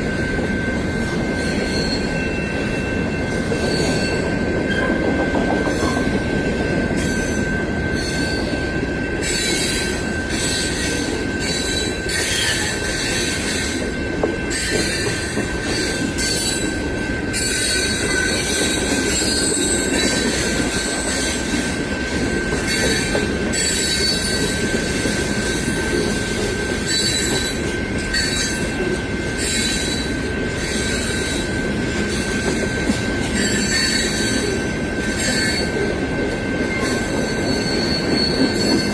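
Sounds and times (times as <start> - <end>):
rumble of freight cars: 0.0 - 38.9
train wheels squealing: 0.0 - 38.9.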